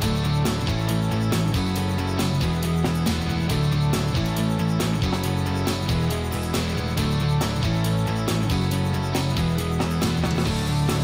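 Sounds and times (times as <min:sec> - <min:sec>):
guitar rock music: 0:00.0 - 0:11.0.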